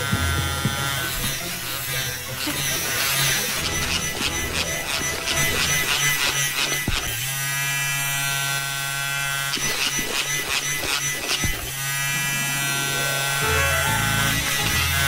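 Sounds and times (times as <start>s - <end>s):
electric vibrator buzzing: 0.0s - 15.0s.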